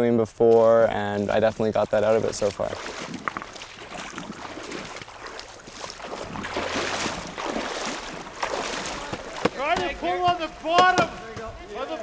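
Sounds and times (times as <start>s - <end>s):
river water splashing and rushing: 1.6s - 11.3s.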